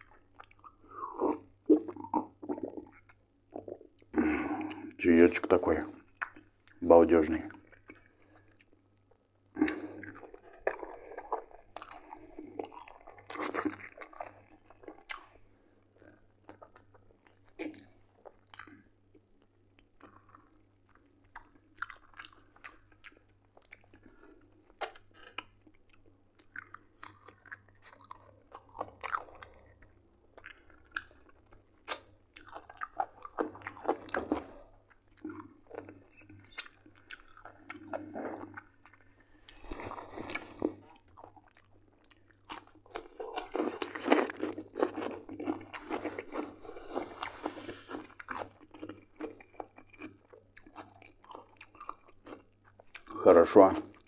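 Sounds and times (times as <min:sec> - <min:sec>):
man chewing meat: 0:00.0 - 0:54.0.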